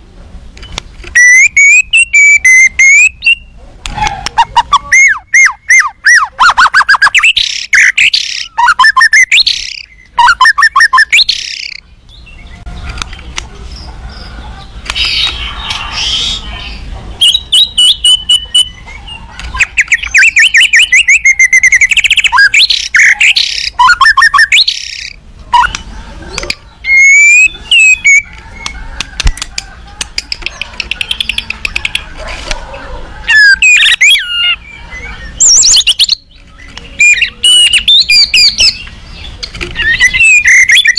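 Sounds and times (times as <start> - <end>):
bird singing: 0.6 - 40.9.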